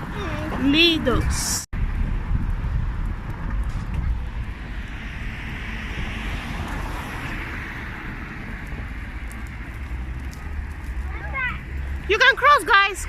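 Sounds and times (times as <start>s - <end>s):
steady low rumble: 0.0s - 13.0s
vehicle passing on road: 0.0s - 13.0s.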